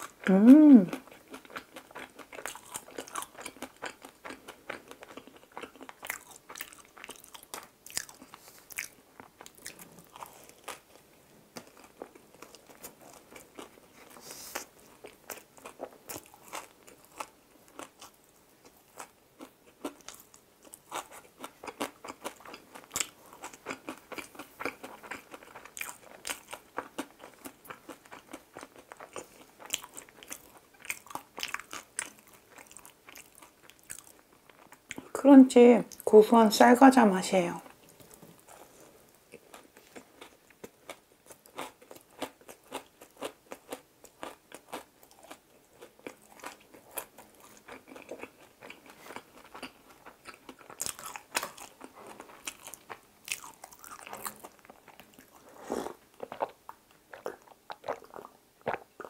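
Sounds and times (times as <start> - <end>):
crunching and chewing food: 0.0 - 35.2, 37.6 - 59.0.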